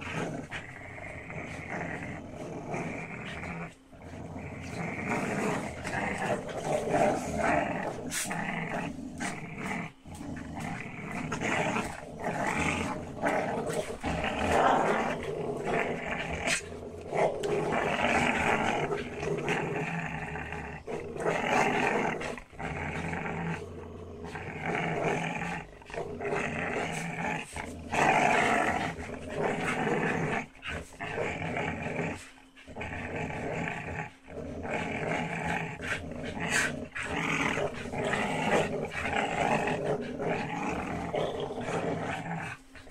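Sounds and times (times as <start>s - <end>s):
dogs growling: 0.0s - 42.9s.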